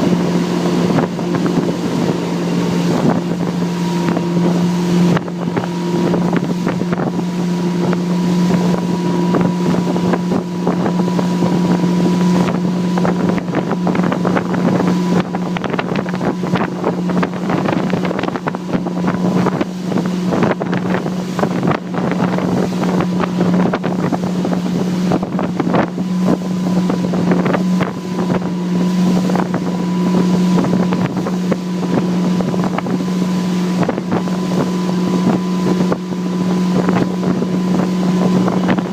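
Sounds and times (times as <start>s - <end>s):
motorboat engine running: 0.0s - 38.9s
water slapping: 0.0s - 38.9s
wind buffeting microphone: 0.0s - 38.9s.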